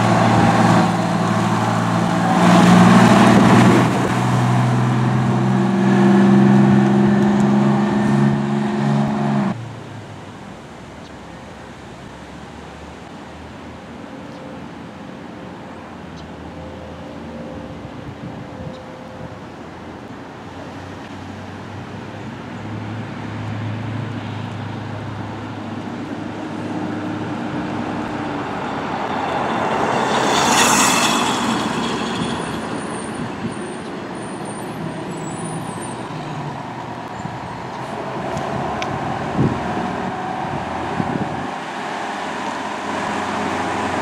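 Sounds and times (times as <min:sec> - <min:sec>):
road noise: 0:00.0 - 0:44.0.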